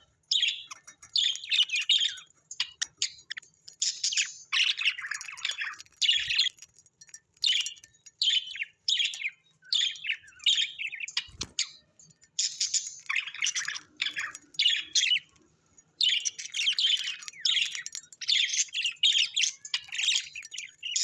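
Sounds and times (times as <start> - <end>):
bird chirping and chattering: 0.0 - 21.0.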